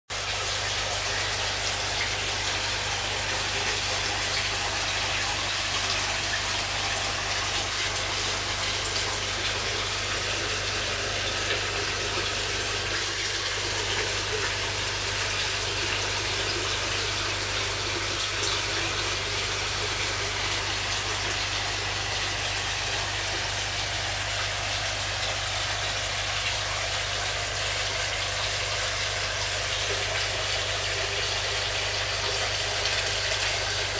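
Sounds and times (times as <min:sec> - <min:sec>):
low pump hum: 0:00.1 - 0:33.9
running water rushing: 0:00.1 - 0:33.9.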